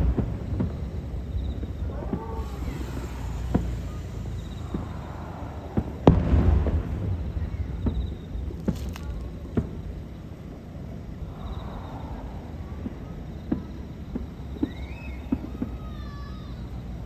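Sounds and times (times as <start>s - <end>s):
low rumble: 0.0s - 15.1s
fireworks bursting with booms: 0.0s - 17.0s.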